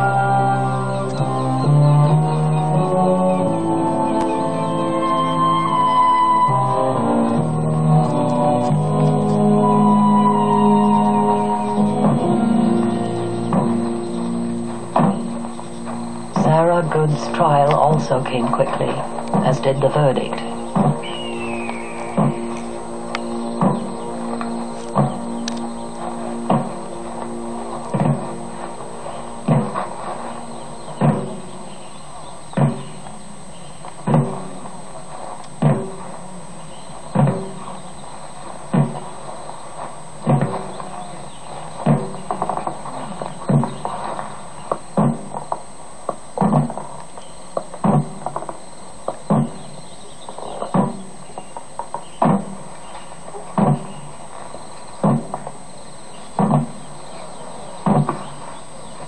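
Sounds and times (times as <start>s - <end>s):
faint steady background noise: 0.0s - 59.0s
muffled drum beats: 0.0s - 59.0s
steady hiss: 0.0s - 59.0s.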